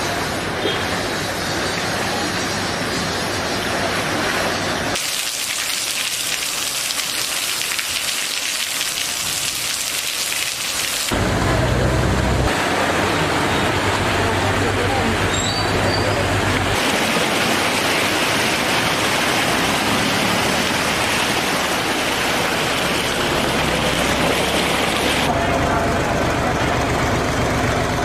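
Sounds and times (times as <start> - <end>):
heavy rain falling: 3.6 - 26.6.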